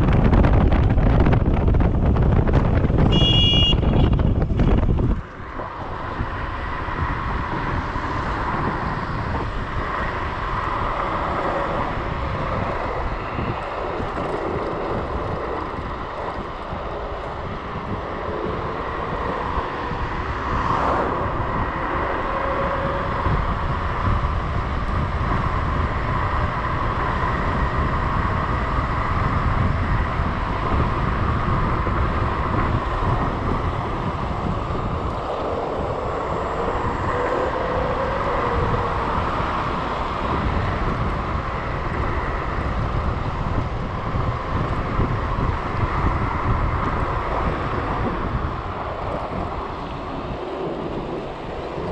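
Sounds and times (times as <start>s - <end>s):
wind on microphone: 0.0s - 51.9s.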